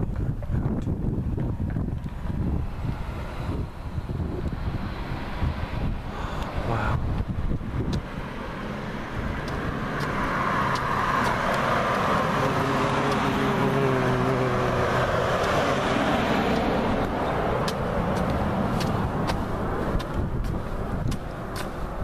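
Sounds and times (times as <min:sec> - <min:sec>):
car passing: 0:02.0 - 0:22.0.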